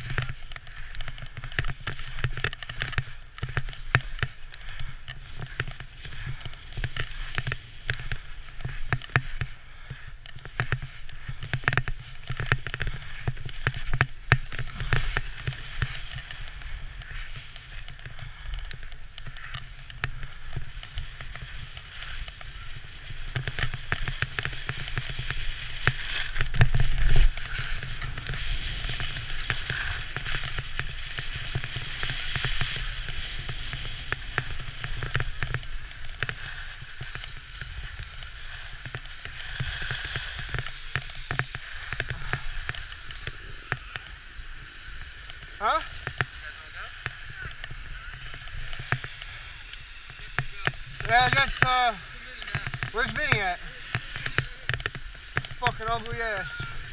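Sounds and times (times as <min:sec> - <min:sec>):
skis scraping over snow: 0:00.0 - 0:56.9
wind rumbling on microphone: 0:00.0 - 0:56.9.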